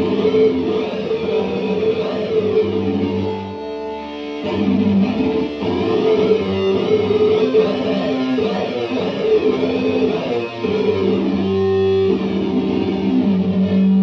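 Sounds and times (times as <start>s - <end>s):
synth-like electric guitar notes: 0.0s - 14.0s.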